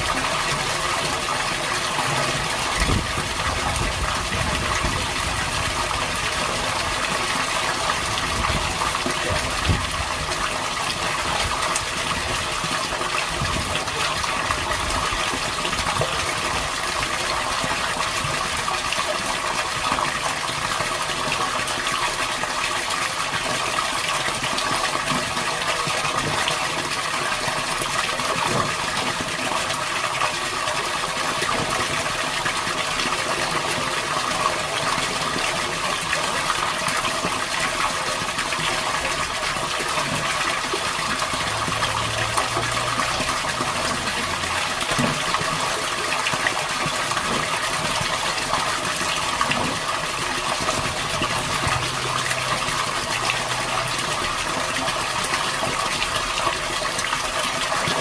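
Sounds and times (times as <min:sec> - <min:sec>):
gushing water: 0:00.0 - 0:58.0.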